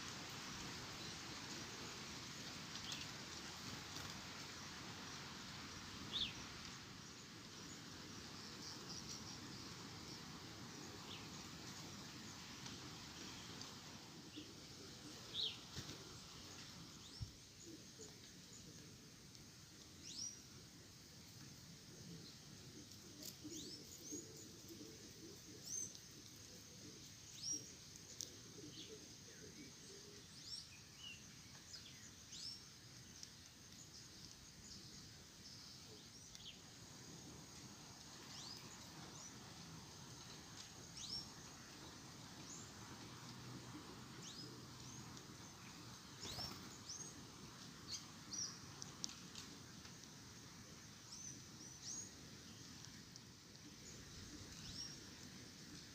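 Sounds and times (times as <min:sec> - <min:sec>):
small birds chirping: 0:00.2 - 0:55.9.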